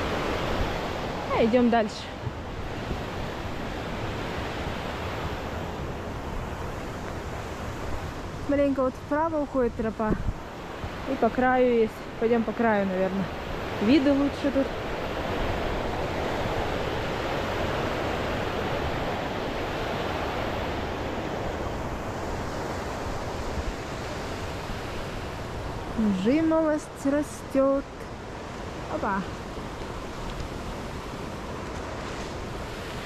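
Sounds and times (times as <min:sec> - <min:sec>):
fast river rushing: 0:00.0 - 0:33.0
wind buffeting microphone: 0:00.0 - 0:33.0.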